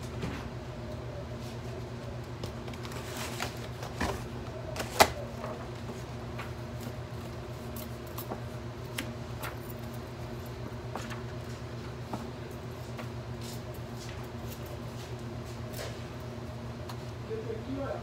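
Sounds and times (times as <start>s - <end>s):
steady low hum: 0.0s - 18.0s
papers and folders handled: 1.4s - 16.2s.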